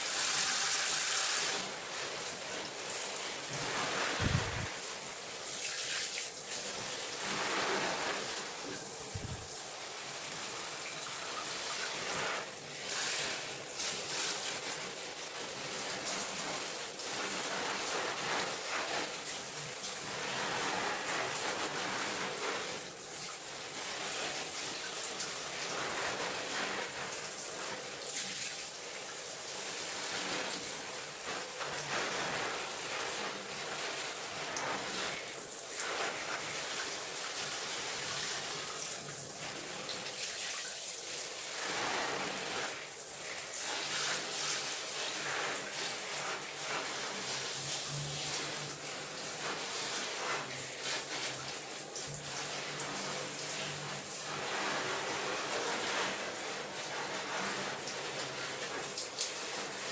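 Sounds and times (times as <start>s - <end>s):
water spraying onto plants: 0.0s - 59.9s.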